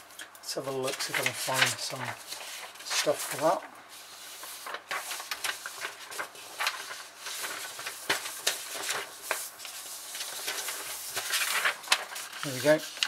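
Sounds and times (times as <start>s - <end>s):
paper rustling and shuffling: 0.6s - 13.0s.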